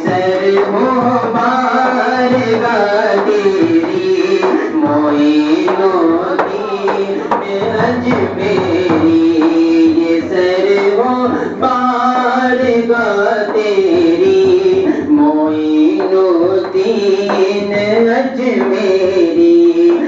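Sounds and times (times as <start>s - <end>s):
man singing devotional song: 0.0s - 20.0s
musical accompaniment: 0.0s - 20.0s.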